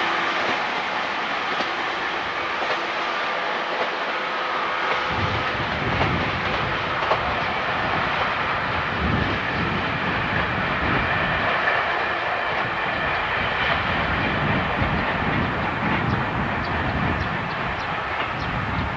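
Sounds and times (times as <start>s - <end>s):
train rumbling past: 0.0s - 18.9s.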